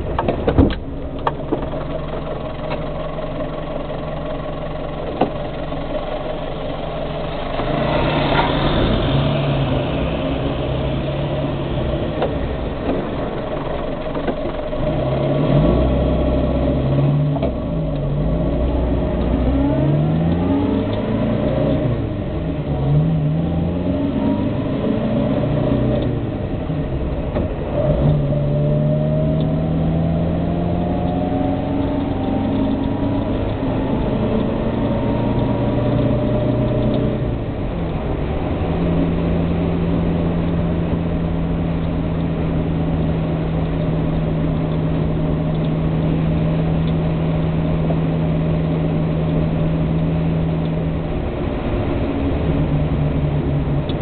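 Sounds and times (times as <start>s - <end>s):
car engine accelerating: 0.0s - 54.0s
whine rising in pitch: 0.0s - 54.0s.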